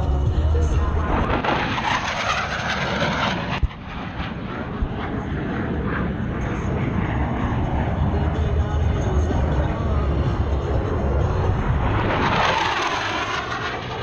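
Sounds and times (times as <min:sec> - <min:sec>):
aircraft engine roar: 0:00.0 - 0:14.0.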